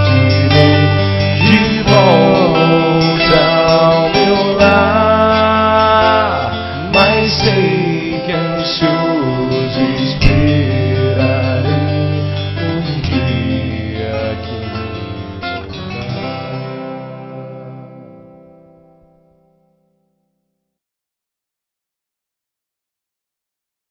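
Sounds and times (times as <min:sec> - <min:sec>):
strummed acoustic guitar music: 0:00.0 - 0:19.8.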